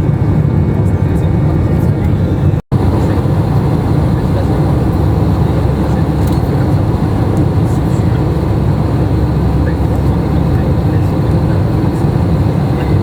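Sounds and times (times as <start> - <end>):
jet engine rumble in cabin: 0.0 - 13.0.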